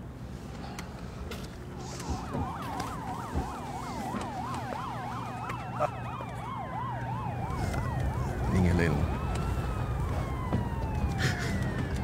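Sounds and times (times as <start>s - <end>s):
sirens yelping and wailing: 0.7s - 12.0s.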